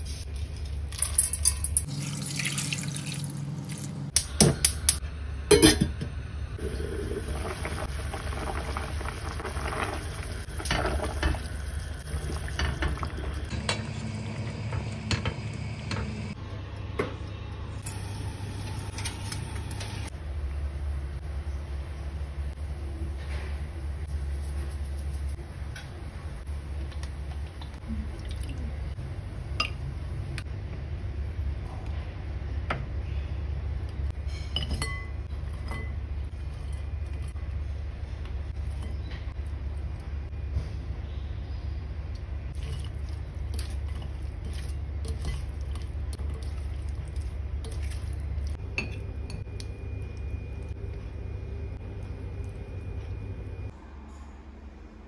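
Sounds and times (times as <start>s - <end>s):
steady low hum: 3.0s - 55.0s.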